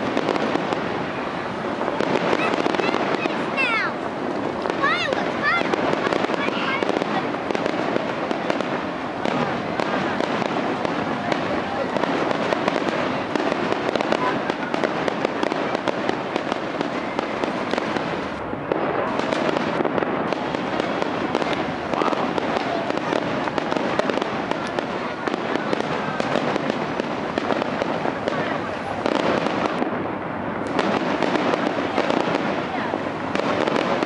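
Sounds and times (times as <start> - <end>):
firework booms and crackles: 0.0 - 34.0.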